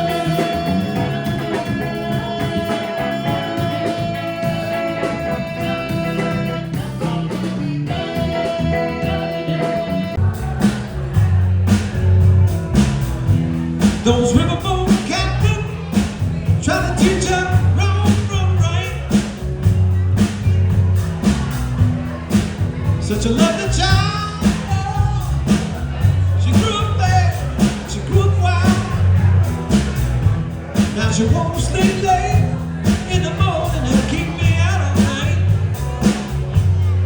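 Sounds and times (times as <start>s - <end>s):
guitar chords: 0.0s - 37.0s
live rock band playing: 0.0s - 37.0s.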